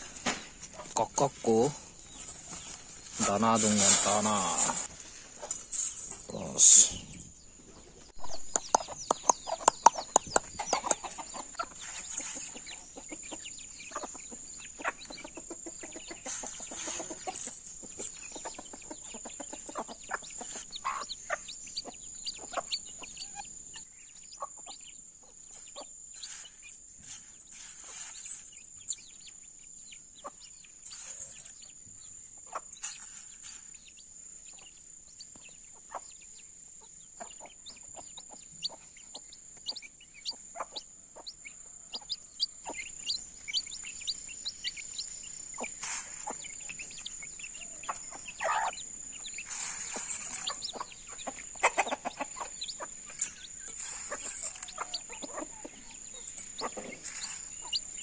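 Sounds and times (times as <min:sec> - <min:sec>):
hen clucking: 0:00.0 - 0:05.7, 0:06.3 - 0:28.2, 0:28.9 - 0:58.0
chicks peeping: 0:00.0 - 0:58.0.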